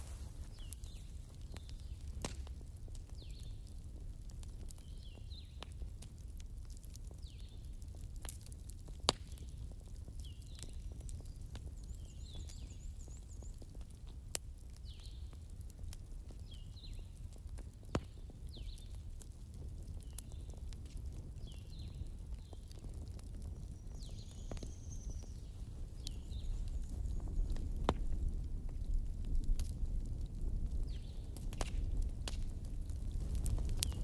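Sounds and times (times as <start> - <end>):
bonfire crackling: 0.0 - 34.0
fire popping: 0.0 - 34.0.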